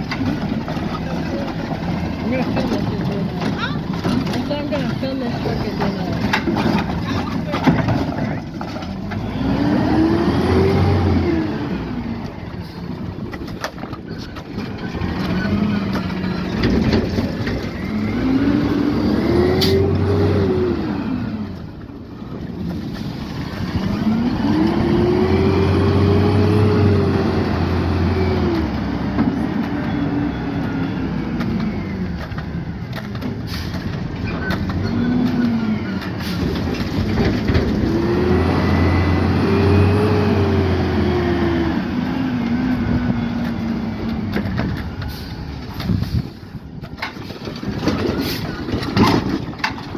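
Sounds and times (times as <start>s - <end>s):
garbage truck engine revving: 0.0s - 49.9s
wind and traffic noise: 0.0s - 49.9s.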